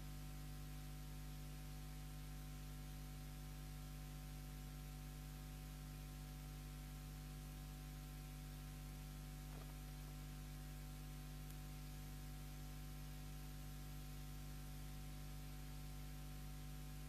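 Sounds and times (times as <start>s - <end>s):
constant hiss: 0.0s - 17.0s
electrical hum: 0.0s - 17.0s.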